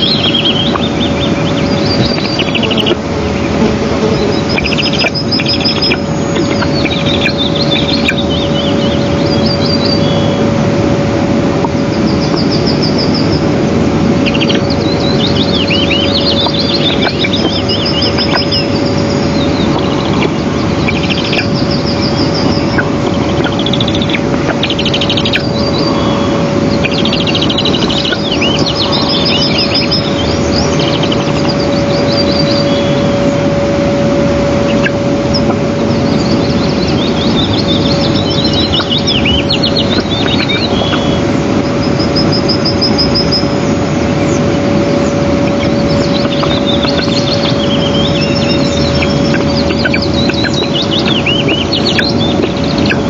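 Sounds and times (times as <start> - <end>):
bird chirps and trills: 0.0 - 53.0
constant hum: 0.0 - 53.0
loud steady rushing noise: 0.0 - 53.0.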